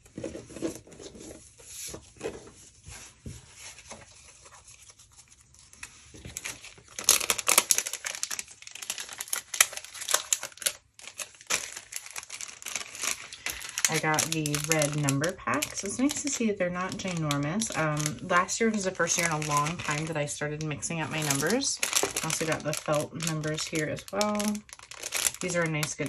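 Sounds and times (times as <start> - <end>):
plastic packaging crinkling: 3.6 - 26.0.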